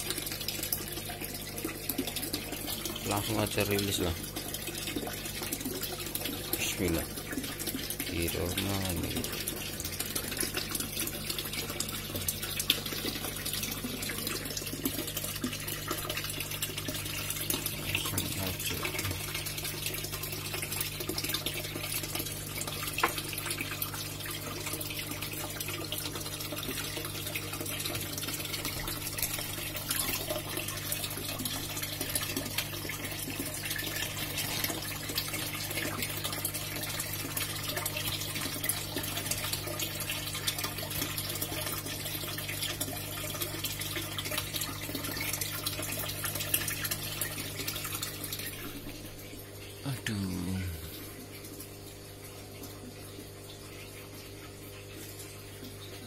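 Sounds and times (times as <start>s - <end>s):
low pump hum: 0.0s - 56.0s
water bubbling and trickling: 0.0s - 56.0s.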